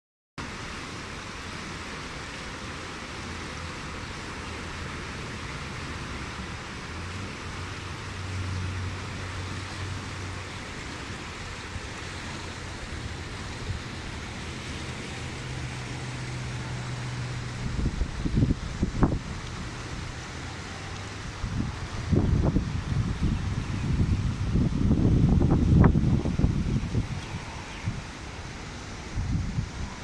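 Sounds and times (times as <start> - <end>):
floodwater rushing: 0.4 - 30.0.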